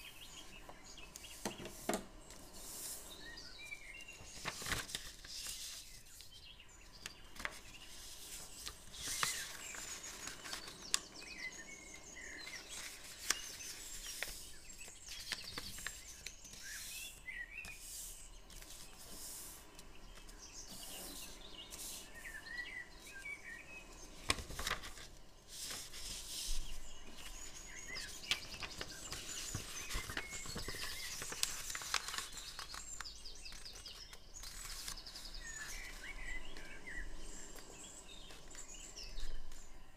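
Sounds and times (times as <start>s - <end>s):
paper rustling and crinkling: 0.0s - 23.3s, 24.0s - 36.8s
birds chirping: 0.0s - 39.9s.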